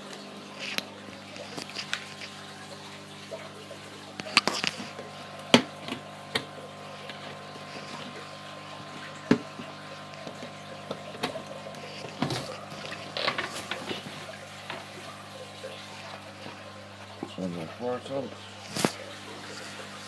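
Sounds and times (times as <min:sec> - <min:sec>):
water sloshing: 0:00.0 - 0:20.0.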